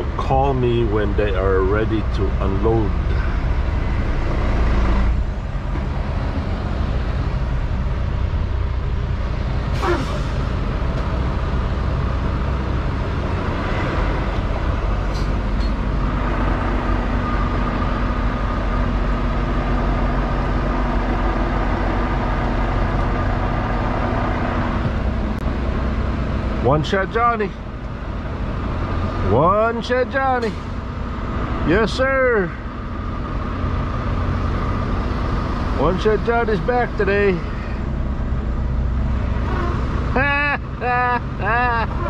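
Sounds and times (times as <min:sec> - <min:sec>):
truck diesel engine running: 0:00.0 - 0:42.0.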